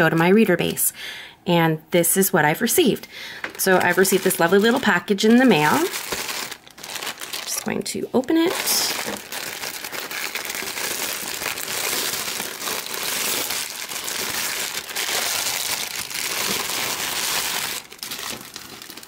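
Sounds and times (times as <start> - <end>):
plastic wrapping crinkling: 3.4 - 19.0.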